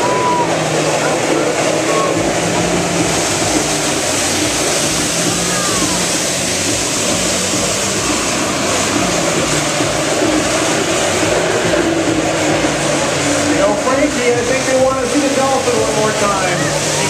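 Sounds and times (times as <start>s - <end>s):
jet ski engine droning: 0.0s - 17.0s
water jets hissing: 0.0s - 17.0s.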